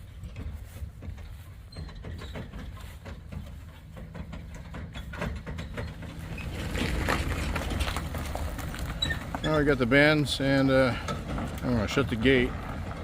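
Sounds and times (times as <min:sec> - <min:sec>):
clanks and rattles: 0:00.0 - 0:13.0
truck engine running: 0:00.0 - 0:13.0.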